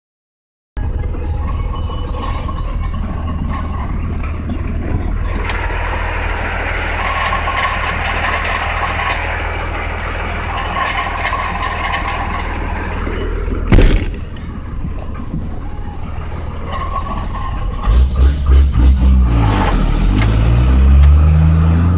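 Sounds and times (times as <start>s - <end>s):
vehicle engine running: 0.8s - 21.9s.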